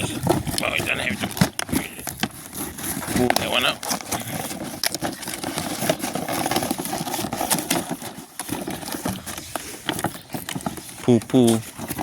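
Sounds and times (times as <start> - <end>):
cardboard packaging rustling: 0.0 - 12.0.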